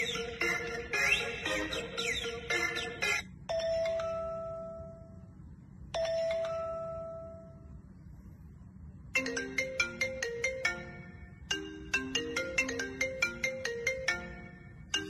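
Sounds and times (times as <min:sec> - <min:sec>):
ringtone melody: 0:00.0 - 0:05.3, 0:05.9 - 0:07.8, 0:09.2 - 0:15.0.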